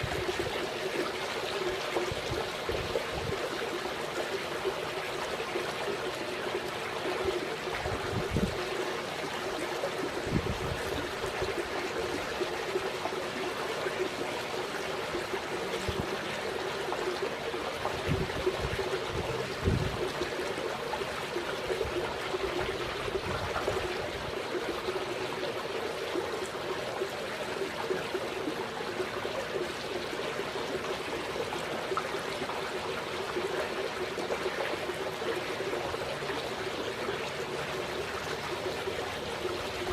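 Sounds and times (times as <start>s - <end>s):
trickling running water: 0.0s - 39.9s.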